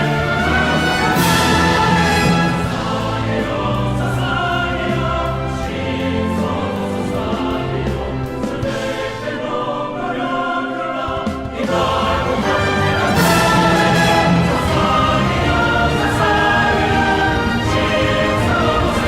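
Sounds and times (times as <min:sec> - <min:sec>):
choral singing: 0:00.0 - 0:19.0
orchestral backing: 0:00.0 - 0:19.0.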